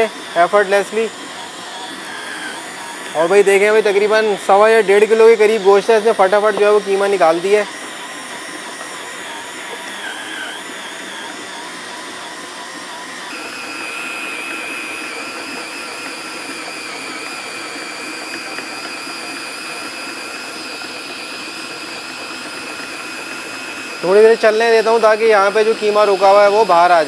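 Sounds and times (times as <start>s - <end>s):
cordless drill whining: 0.0s - 27.0s.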